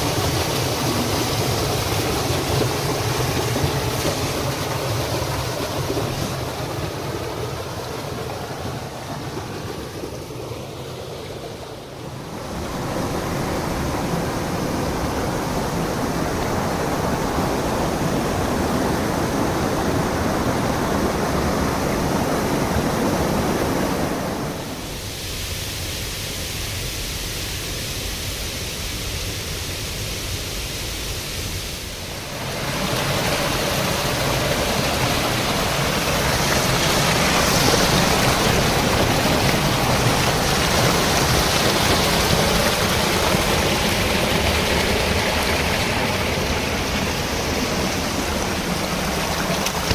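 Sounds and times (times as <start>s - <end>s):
rushing water: 0.0s - 49.9s.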